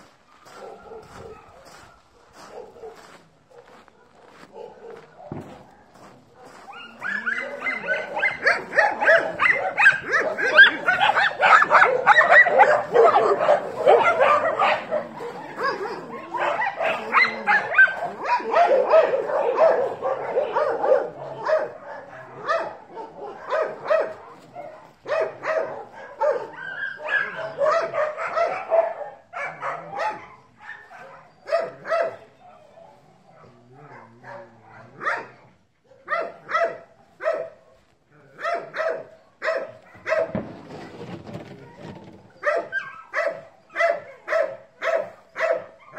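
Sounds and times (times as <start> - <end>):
dogs barking: 0.3 - 40.7, 41.6 - 45.9.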